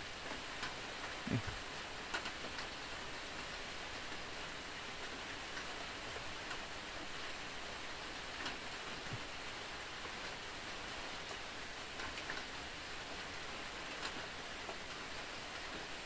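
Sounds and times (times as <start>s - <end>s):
rain falling on water: 0.0s - 16.0s.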